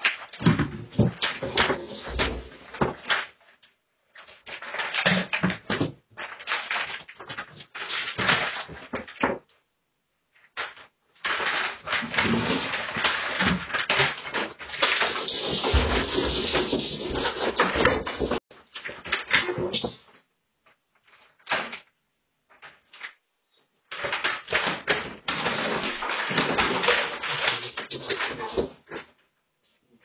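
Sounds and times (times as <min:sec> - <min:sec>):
plastic toy clattering on tiles: 0:00.0 - 0:09.5, 0:10.4 - 0:20.0, 0:23.9 - 0:29.1.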